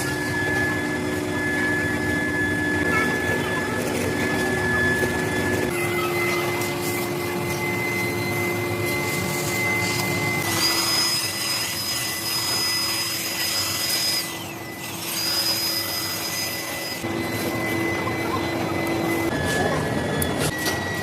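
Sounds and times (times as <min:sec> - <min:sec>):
hissing whining cutting: 0:00.0 - 0:21.0
machine tool motor whine: 0:00.0 - 0:21.0.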